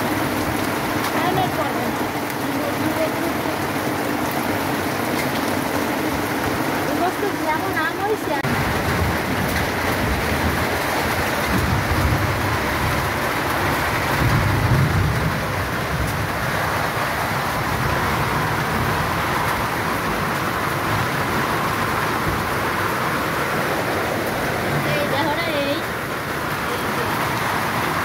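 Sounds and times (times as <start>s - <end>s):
rain and hail falling heavily: 0.0s - 28.0s.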